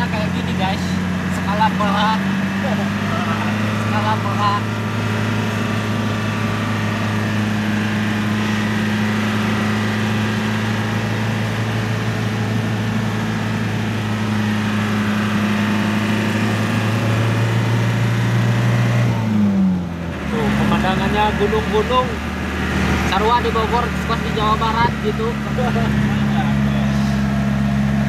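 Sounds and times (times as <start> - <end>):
pickup truck engine droning: 0.0 - 28.0.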